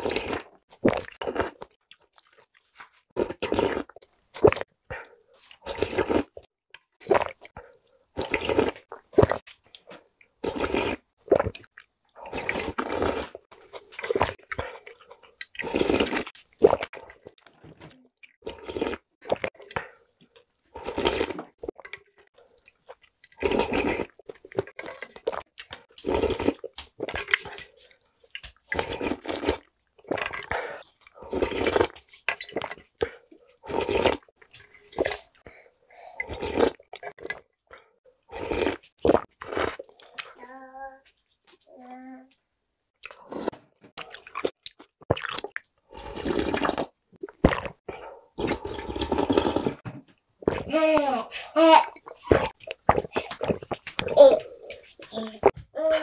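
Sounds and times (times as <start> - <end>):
slurping soup from spoon: 0.0 - 1.8, 2.4 - 17.4, 18.4 - 40.4, 43.1 - 49.8
wet chewing: 0.0 - 40.3, 43.0 - 49.8, 52.0 - 55.6.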